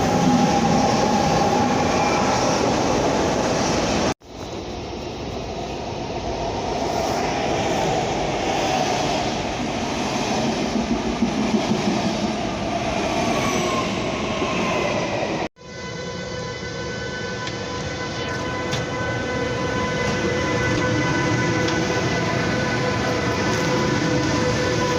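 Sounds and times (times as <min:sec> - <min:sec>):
falling train whine: 0:00.0 - 0:24.9.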